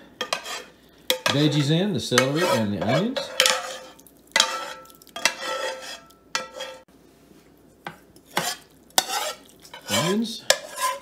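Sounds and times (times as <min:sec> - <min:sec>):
spoon scraping skillet: 0:00.0 - 0:06.9, 0:07.6 - 0:11.0.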